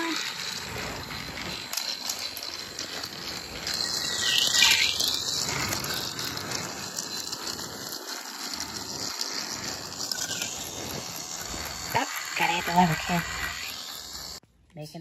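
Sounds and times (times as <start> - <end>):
toy train motor whirring: 0.0 - 14.5.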